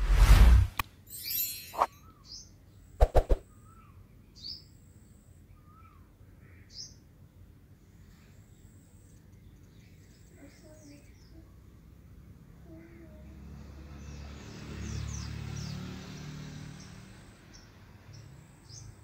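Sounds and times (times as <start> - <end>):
small birds chirping: 1.3 - 19.0.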